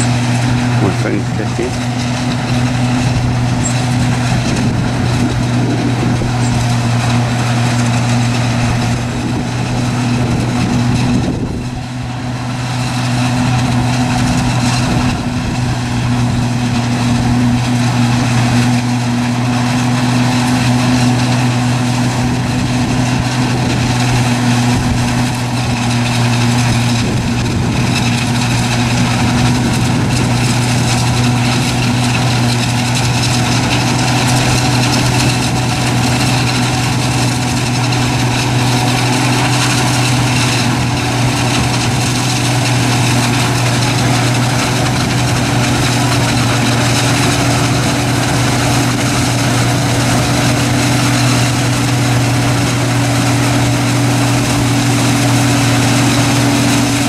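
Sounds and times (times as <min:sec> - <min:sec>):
heavy engine humming: 0:00.0 - 0:57.0.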